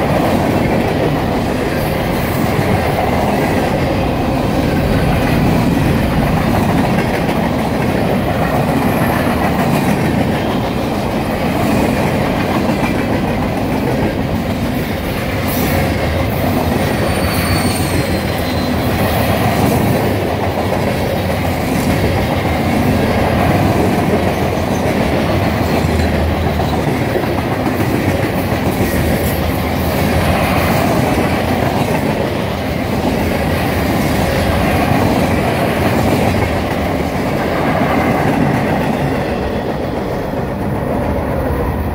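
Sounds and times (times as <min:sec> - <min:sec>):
freight train wheels rumbling on rails: 0:00.0 - 0:41.9.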